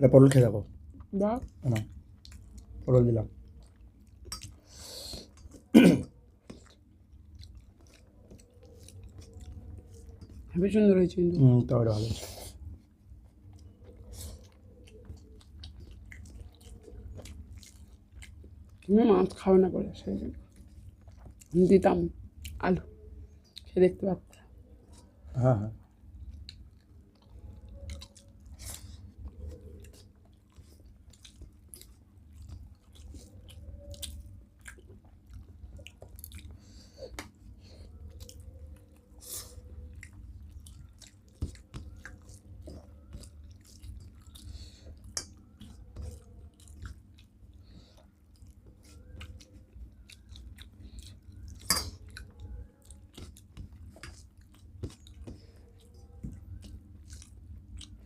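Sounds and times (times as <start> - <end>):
people chewing: 0.3 - 58.0.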